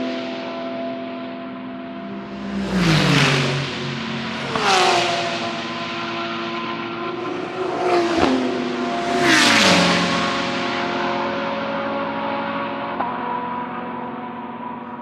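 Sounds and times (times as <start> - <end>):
race cars passing at speed: 1.7 - 15.0.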